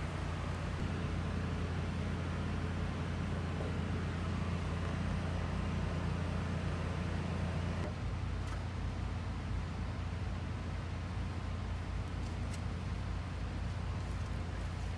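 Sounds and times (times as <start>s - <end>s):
low engine rumble: 0.0s - 14.9s.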